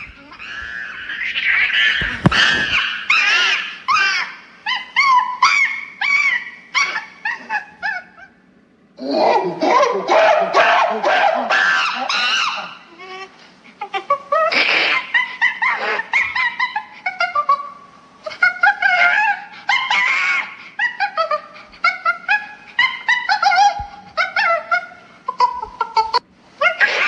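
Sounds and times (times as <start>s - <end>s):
monkey calls: 0.0s - 8.4s, 9.0s - 27.0s.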